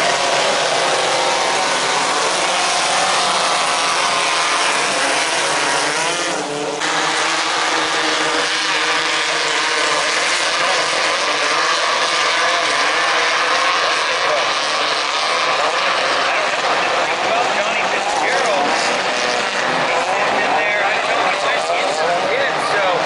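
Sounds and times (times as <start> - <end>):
racing buggy engines running hard: 0.0 - 23.0.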